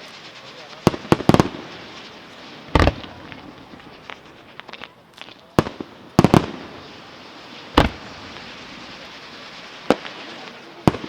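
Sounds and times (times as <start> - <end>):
crackling hiss: 0.0 - 11.0
fireworks bursting with sharp bangs: 0.0 - 11.0.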